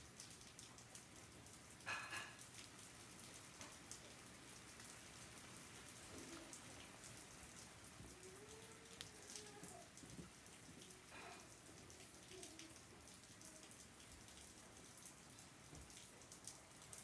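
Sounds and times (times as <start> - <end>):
rain patter: 0.0 - 17.0.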